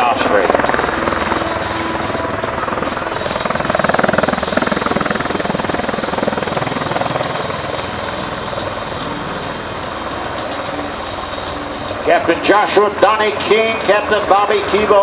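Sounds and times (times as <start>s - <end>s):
tiltrotor aircraft rotor beat: 0.0s - 15.0s.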